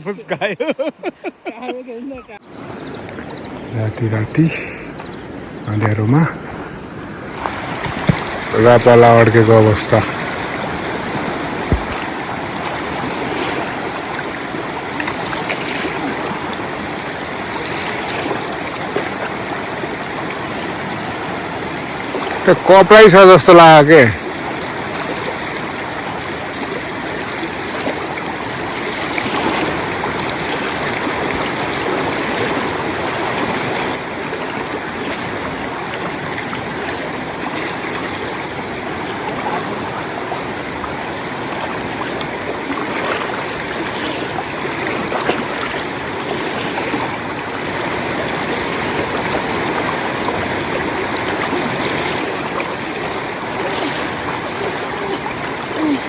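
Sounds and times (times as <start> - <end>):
river rushing: 2.3 - 56.0.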